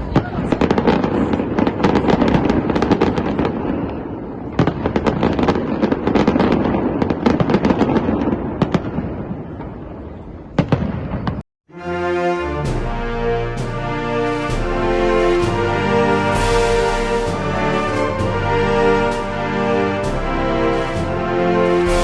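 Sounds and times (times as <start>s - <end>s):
fireworks crackling and banging: 0.0s - 11.4s, 13.6s - 22.0s.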